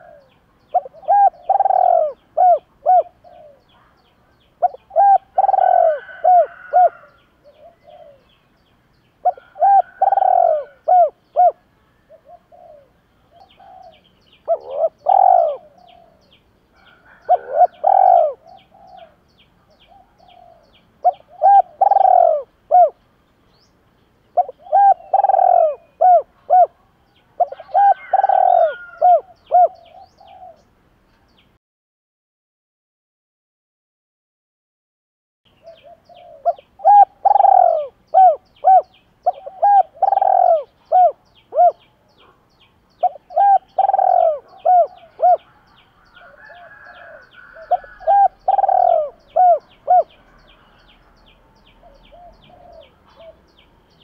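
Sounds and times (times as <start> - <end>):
dove cooing: 0.0 - 4.0, 4.6 - 8.4, 9.2 - 23.0, 24.4 - 30.7, 35.6 - 54.0.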